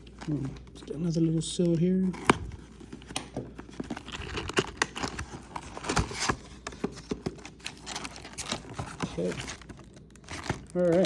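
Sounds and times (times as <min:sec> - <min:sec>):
cardboard box seal peeling: 0:02.0 - 0:11.0.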